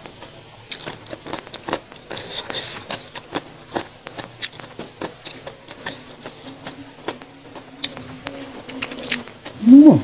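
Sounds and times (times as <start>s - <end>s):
chewing: 0.2s - 9.6s.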